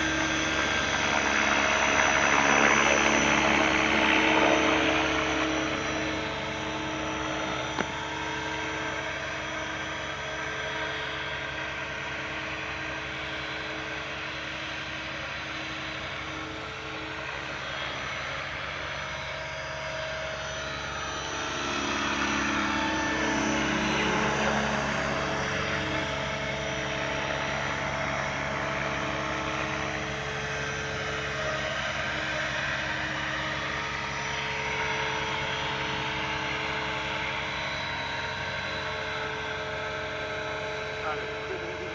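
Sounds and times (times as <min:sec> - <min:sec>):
model helicopter rotors whining: 0:00.0 - 0:41.9.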